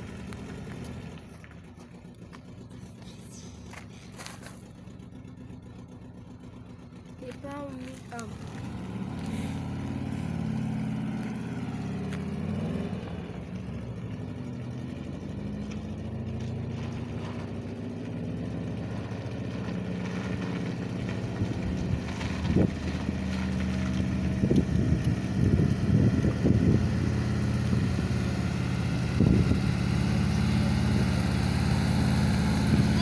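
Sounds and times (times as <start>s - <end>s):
car engine running: 0.0s - 33.0s
engine revving: 0.0s - 33.0s.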